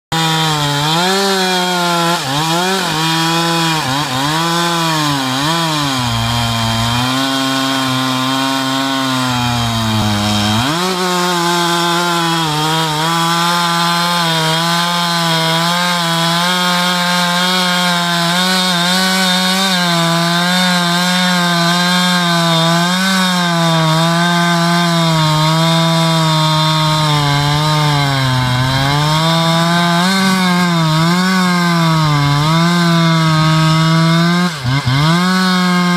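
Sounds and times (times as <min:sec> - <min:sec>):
chainsaw cutting log: 0:00.0 - 0:35.9.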